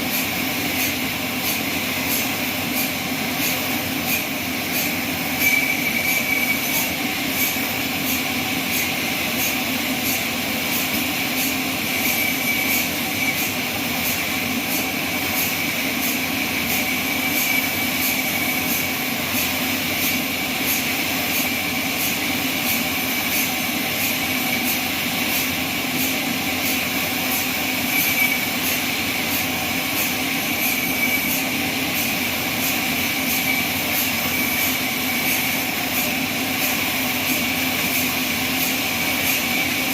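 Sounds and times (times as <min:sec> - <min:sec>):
sawmill mechanical hum: 0:00.0 - 0:39.9.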